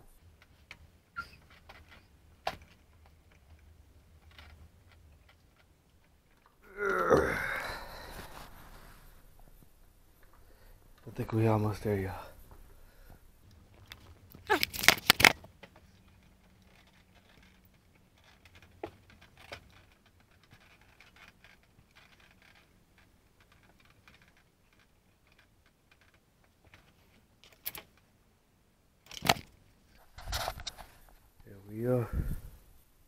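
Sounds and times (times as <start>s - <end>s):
rubber grip rubbing and scraping: 0.0s - 27.1s, 30.0s - 32.9s.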